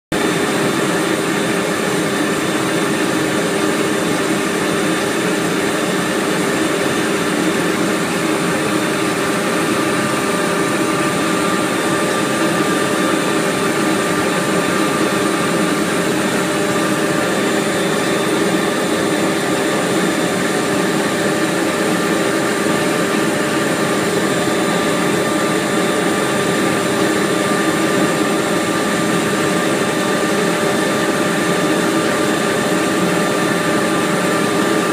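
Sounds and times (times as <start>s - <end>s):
machine droning: 0.2s - 34.9s.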